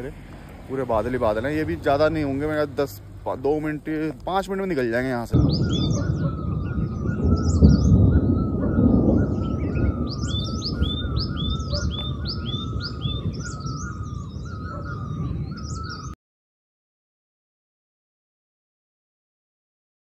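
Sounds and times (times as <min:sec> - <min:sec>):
birds chirping: 0:00.0 - 0:16.2
low rumbling noise: 0:00.0 - 0:16.2.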